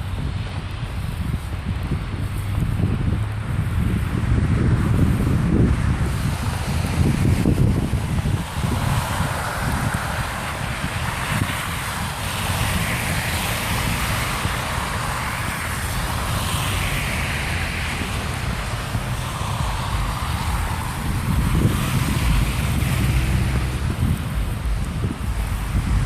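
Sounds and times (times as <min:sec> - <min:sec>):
blizzard wind gusting: 0:00.0 - 0:26.0
wind buffeting microphone: 0:00.0 - 0:26.0.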